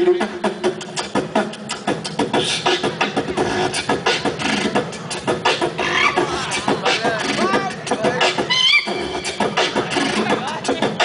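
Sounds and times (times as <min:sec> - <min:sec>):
beatboxing through a microphone: 0:00.0 - 0:11.0.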